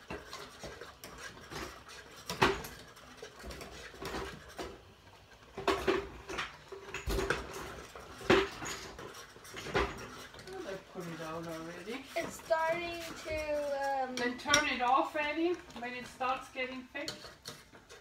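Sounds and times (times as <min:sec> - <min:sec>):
utensils clinking against pots: 0:00.0 - 0:18.0.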